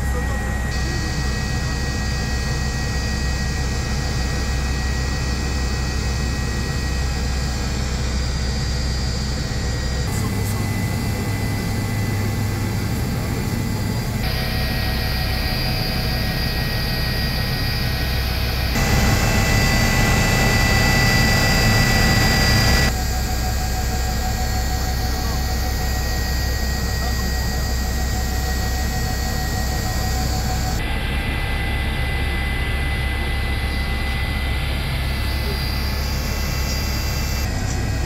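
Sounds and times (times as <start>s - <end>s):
helicopter turbine and rotor noise: 0.0s - 38.0s.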